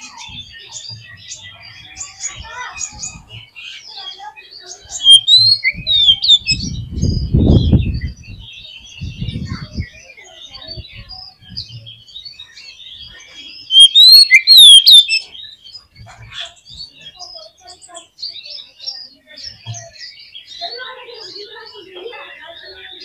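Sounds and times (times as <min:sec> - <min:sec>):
bird singing chirps and whistles: 0:00.0 - 0:23.0.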